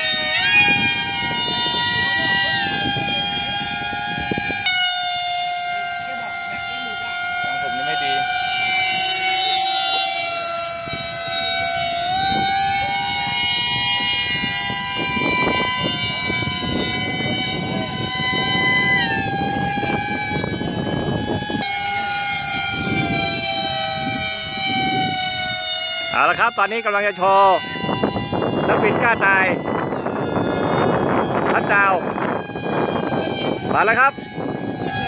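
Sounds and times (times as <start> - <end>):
model plane electric motor whine: 0.0 - 35.0.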